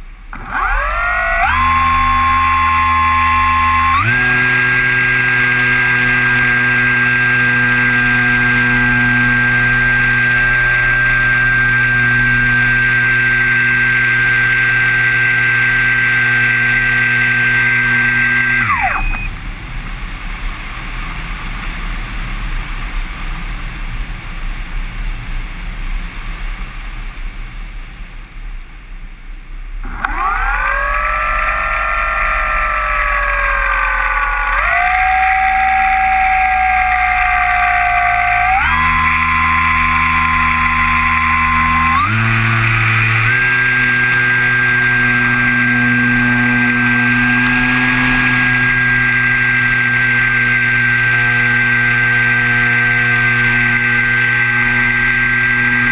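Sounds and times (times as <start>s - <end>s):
model plane motor whine: 0.0s - 19.4s, 29.7s - 55.9s.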